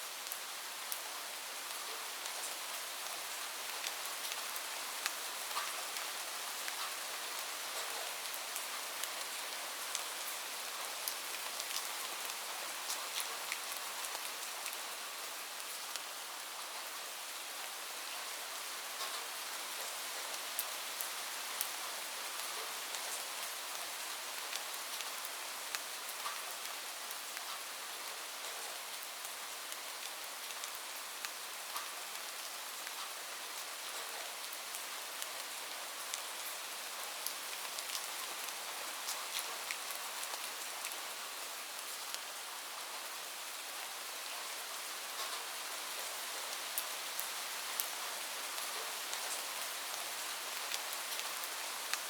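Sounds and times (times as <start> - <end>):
light rain hissing: 0.0 - 52.0
raindrops ticking on a surface: 0.1 - 52.0.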